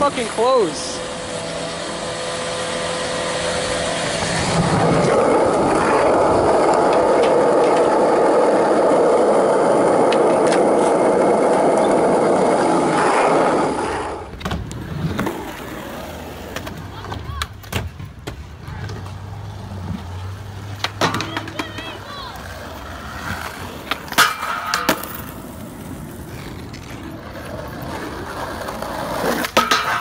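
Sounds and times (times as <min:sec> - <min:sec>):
skateboard wheels on concrete: 0:00.0 - 0:30.0.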